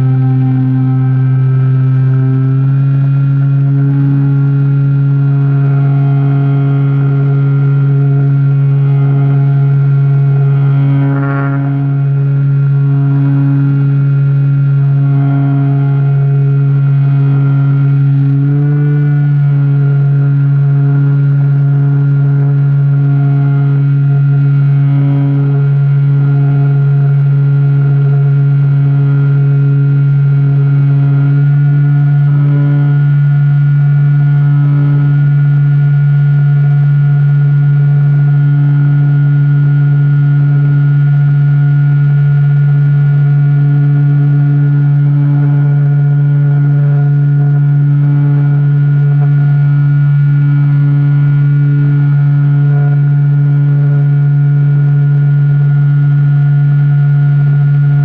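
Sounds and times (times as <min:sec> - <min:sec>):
model plane motor and propeller droning: 0:00.0 - 0:58.0.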